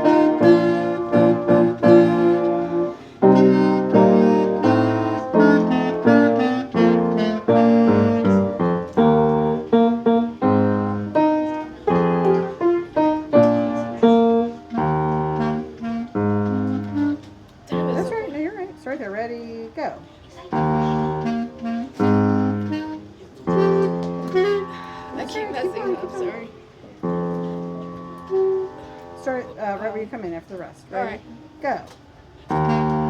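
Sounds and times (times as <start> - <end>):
piano chords: 0.0 - 19.4, 20.5 - 30.3, 32.5 - 33.0.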